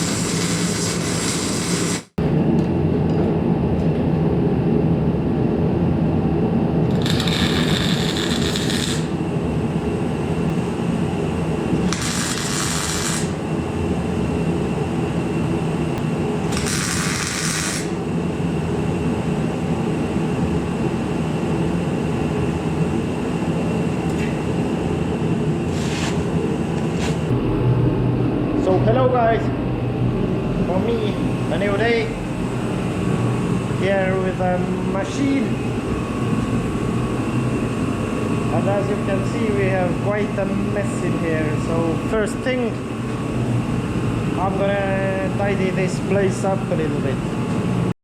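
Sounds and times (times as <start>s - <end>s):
mechanical hum: 0.0s - 48.0s.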